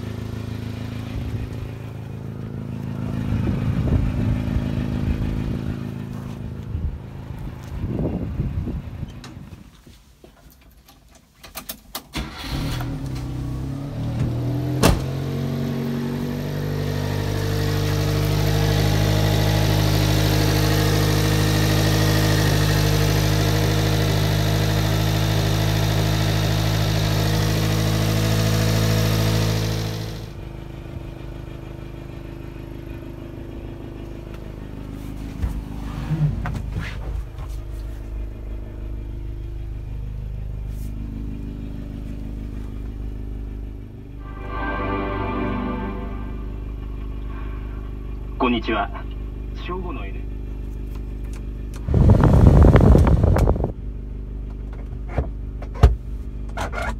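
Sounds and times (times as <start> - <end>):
car engine starting and idling: 0.0 - 56.9.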